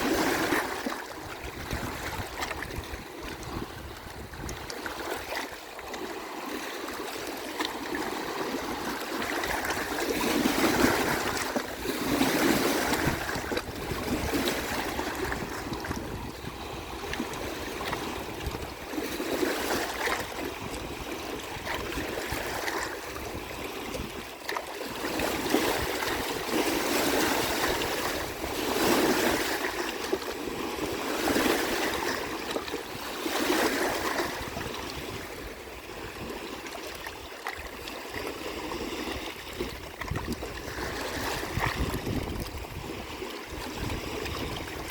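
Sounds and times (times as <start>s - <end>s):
waves washing onto shore: 0.0s - 44.9s.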